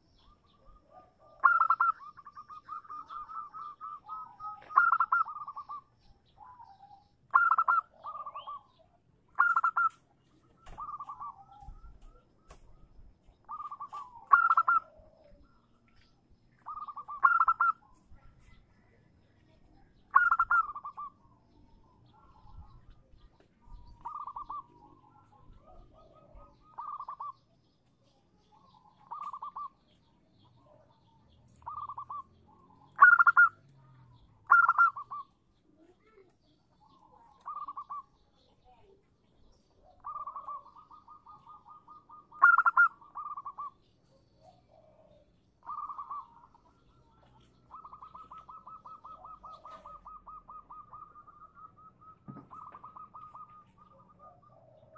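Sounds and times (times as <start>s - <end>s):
dove calling: 0.0s - 19.0s, 19.6s - 54.9s.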